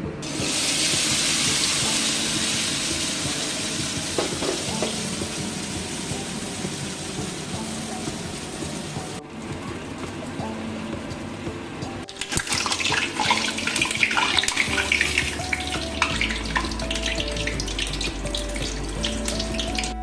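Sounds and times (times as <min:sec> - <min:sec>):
background music: 0:00.0 - 0:20.0
food deep-frying in oil: 0:00.2 - 0:10.8, 0:12.0 - 0:20.0.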